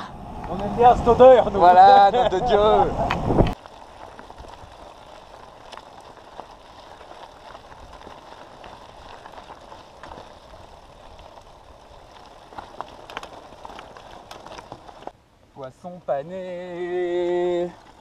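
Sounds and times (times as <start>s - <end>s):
bike tyres rolling on gravel: 0.1s - 18.0s.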